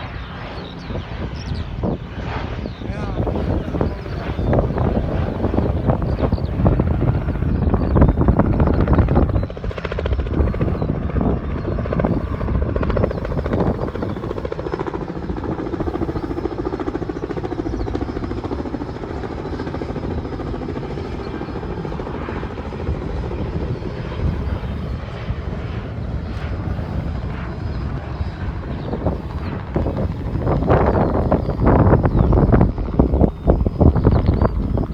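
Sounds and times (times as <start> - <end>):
helicopter engine noise: 0.0 - 34.9
helicopter rotor beating: 0.0 - 34.9.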